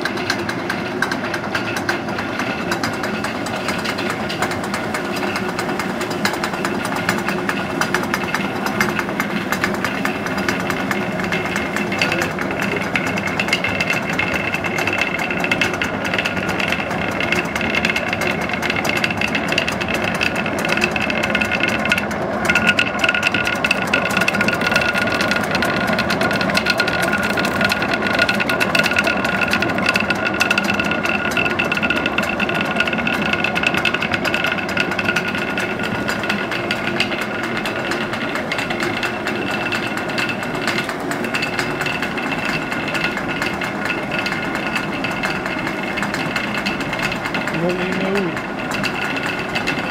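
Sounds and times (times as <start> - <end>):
millstones grinding grain: 0.0 - 49.9.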